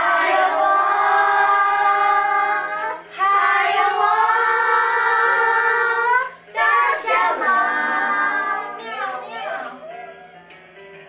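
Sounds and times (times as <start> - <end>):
young children singing: 0.0 - 9.9.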